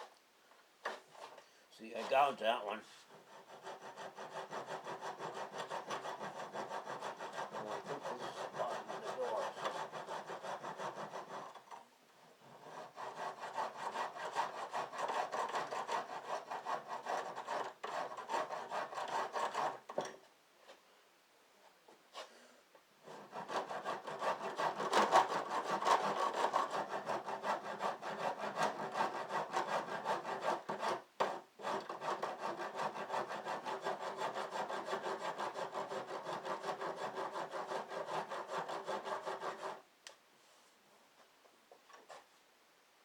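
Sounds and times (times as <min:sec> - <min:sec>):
hand rasp filing wood: 0:01.9 - 0:20.1, 0:23.0 - 0:39.8.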